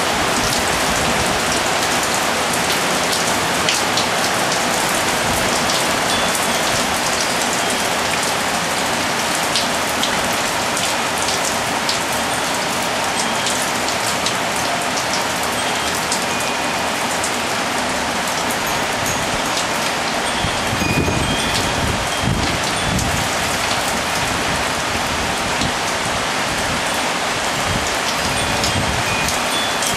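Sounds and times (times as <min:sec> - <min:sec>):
heavy rain pattering: 0:00.0 - 0:29.9
faint wind chime tones: 0:01.2 - 0:10.2, 0:11.8 - 0:24.3, 0:26.8 - 0:29.9.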